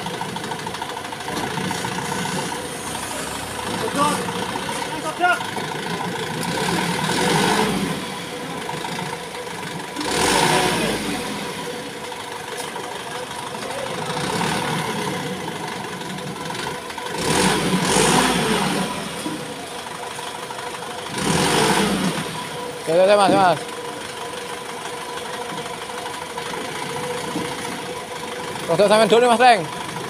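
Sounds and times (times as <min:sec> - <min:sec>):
diesel truck engine revving: 0:00.0 - 0:30.0.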